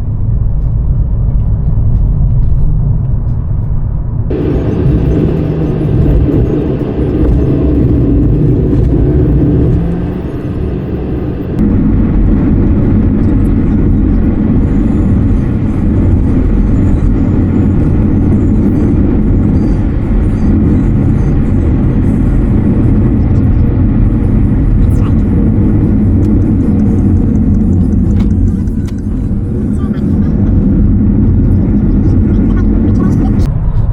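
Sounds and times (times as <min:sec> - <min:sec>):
vehicle rumble: 0:00.0 - 0:33.9.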